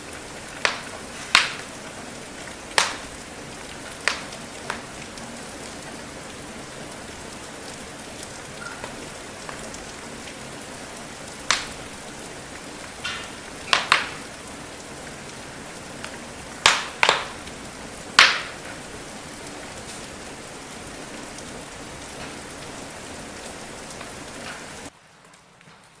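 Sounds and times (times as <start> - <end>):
rain hissing: 0.0 - 26.0
wood fire crackling: 0.0 - 26.0.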